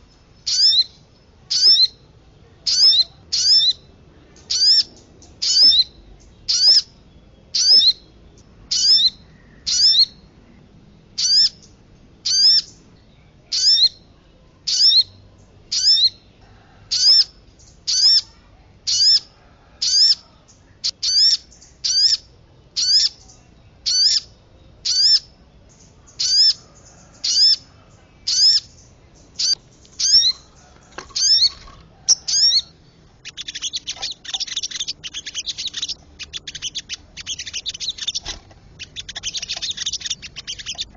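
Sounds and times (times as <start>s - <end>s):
bird twittering chatter: 0.0s - 2.0s, 2.6s - 10.3s, 11.2s - 14.0s, 14.7s - 16.3s, 16.9s - 18.3s, 18.9s - 40.9s.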